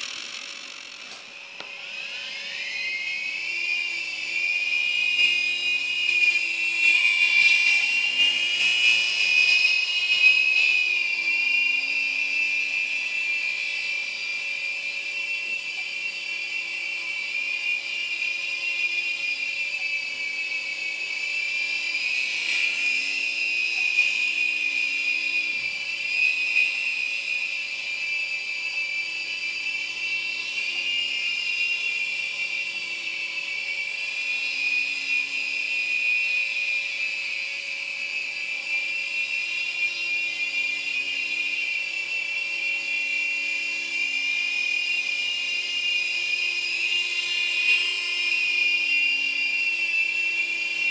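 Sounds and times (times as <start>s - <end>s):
electric helicopter rotor whine: 0.0s - 50.9s.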